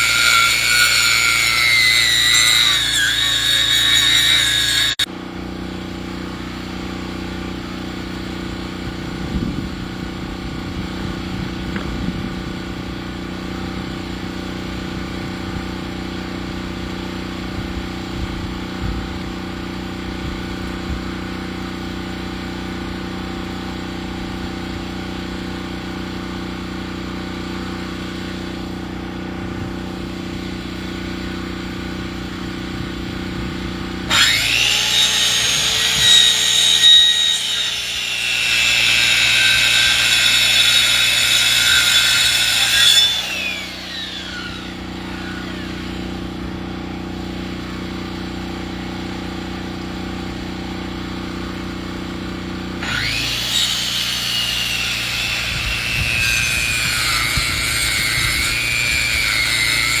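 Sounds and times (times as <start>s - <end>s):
sawmill engine running: 0.0s - 60.0s.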